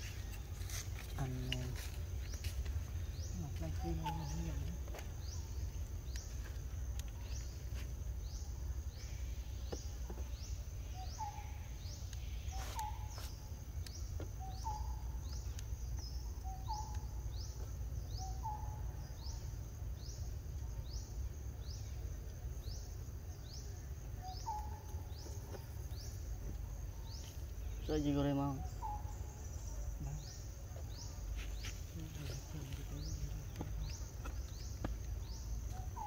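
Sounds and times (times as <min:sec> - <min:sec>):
high rising insect chirp: 0:00.0 - 0:36.0.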